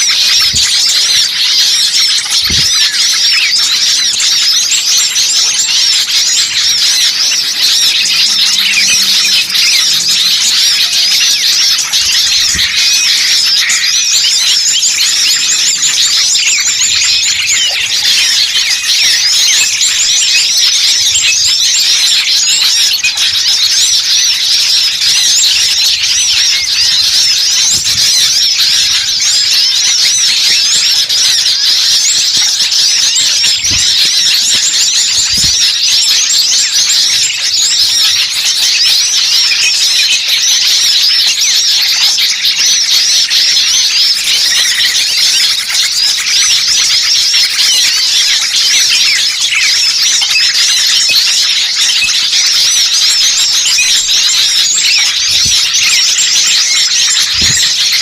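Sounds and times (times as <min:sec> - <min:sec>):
small songbirds chattering: 0:00.0 - 0:58.0.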